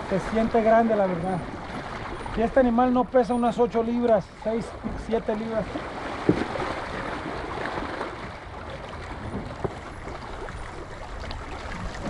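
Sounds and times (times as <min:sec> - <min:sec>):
lake water: 0:00.0 - 0:12.0.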